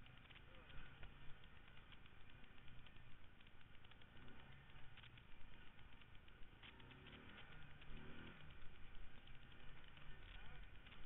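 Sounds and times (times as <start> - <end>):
engine hum: 0.0 - 11.0
light clicks and rattles: 0.0 - 11.0.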